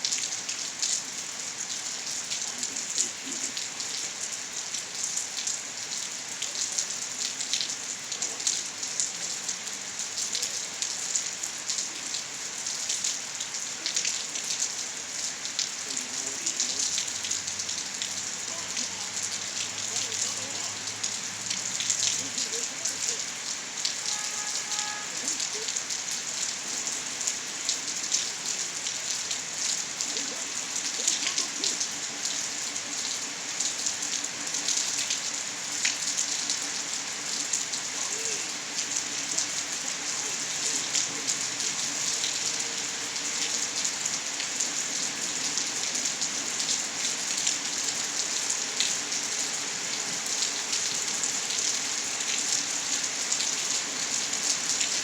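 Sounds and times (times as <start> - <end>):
raindrops ticking close by: 0.0 - 55.0
steady rainfall: 0.0 - 55.0.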